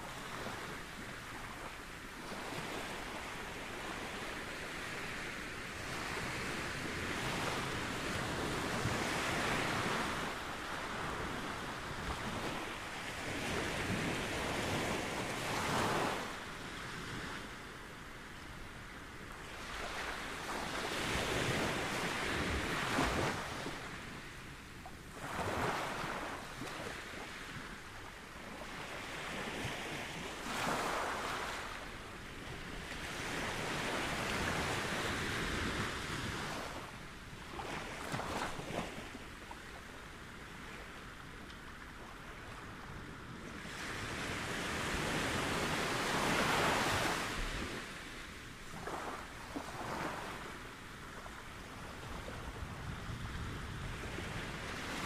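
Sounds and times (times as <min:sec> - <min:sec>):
small ocean waves breaking: 0:00.0 - 0:55.0.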